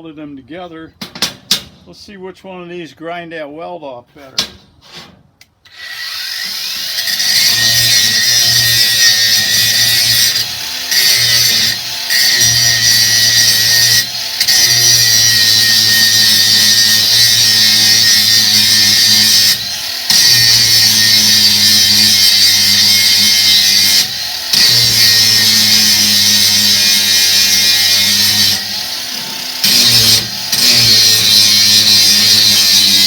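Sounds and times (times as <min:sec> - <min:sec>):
angle grinder grinding steel: 0:05.7 - 0:33.0.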